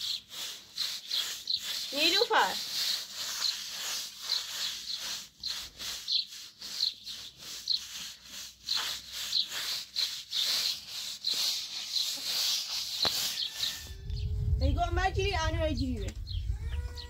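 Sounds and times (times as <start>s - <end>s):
rustling and scraping: 0.0s - 16.3s.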